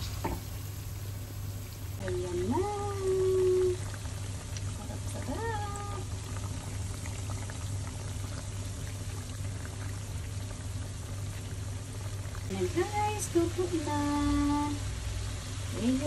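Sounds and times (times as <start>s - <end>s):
oil bubbling and sizzling: 0.0s - 16.0s.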